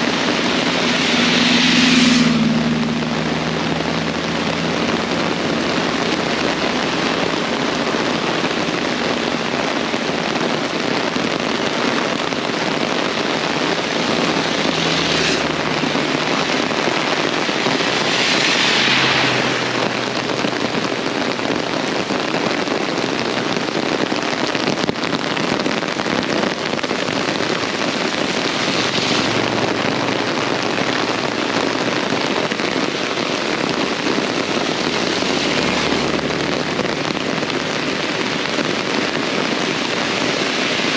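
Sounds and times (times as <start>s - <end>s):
very heavy rain pouring: 0.0s - 40.9s.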